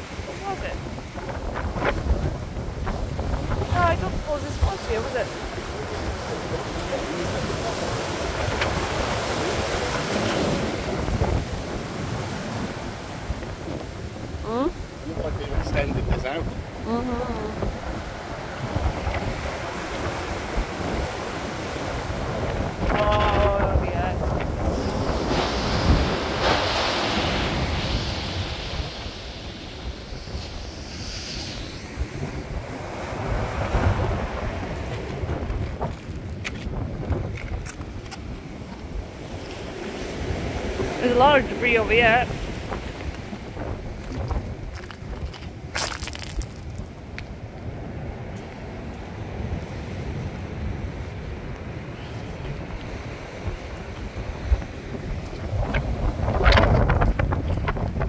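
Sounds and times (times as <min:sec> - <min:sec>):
waves breaking and churning: 0:00.0 - 0:58.0
wind buffeting microphone: 0:00.0 - 0:58.0.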